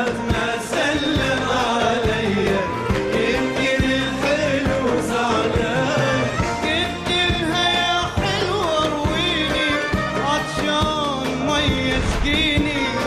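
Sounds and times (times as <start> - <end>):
instrumental accompaniment: 0.0 - 13.0
man singing ornamented melody: 0.0 - 13.0
steady drum beat: 0.0 - 13.0.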